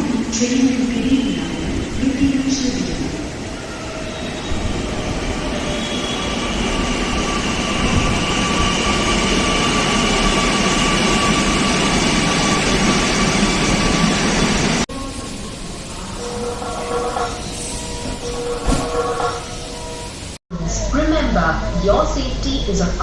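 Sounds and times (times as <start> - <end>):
train wheels rumbling on rail: 0.0 - 20.4.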